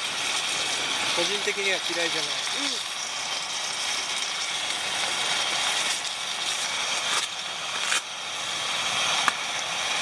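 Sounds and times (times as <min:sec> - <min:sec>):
gas stove burner hissing: 0:00.0 - 0:10.0.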